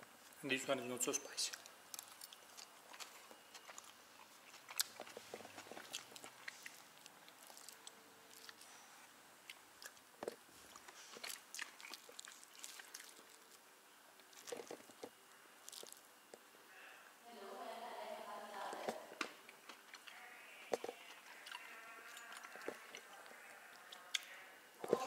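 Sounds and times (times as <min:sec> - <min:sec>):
chewing and crunching food: 0:01.2 - 0:16.5, 0:18.6 - 0:25.0.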